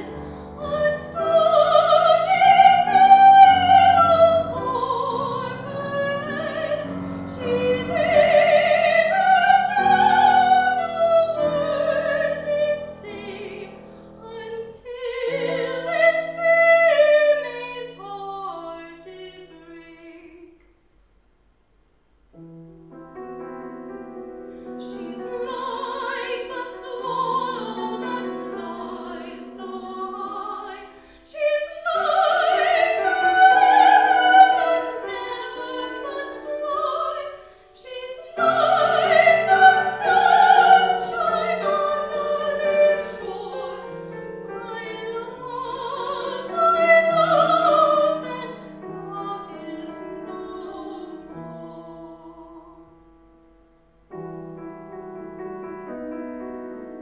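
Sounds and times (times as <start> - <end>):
piano accompaniment: 0.0 - 19.8, 22.4 - 57.0
operatic singing with vibrato: 0.0 - 20.5, 24.8 - 52.9.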